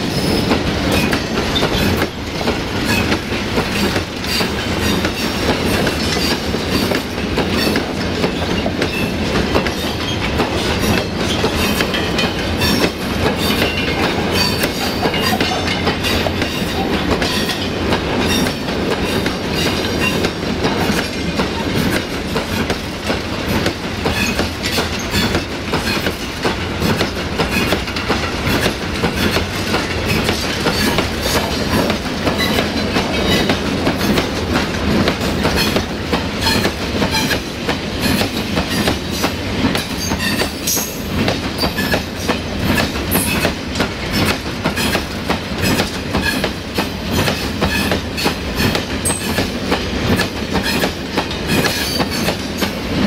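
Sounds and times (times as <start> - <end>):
freight train rumble: 0.0 - 53.0.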